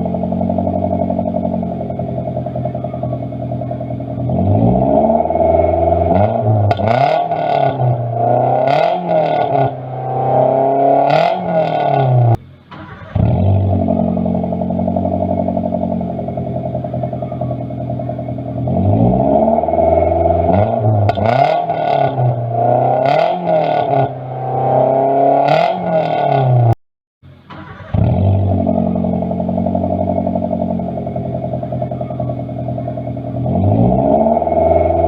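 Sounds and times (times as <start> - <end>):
car engine revving raspy exhaust: 0.0 - 35.0.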